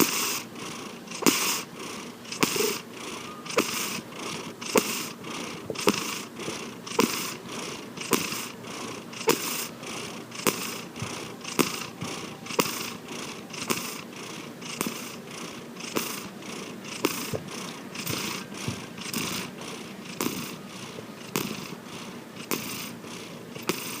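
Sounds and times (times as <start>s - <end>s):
cat snoring: 0.0s - 24.0s.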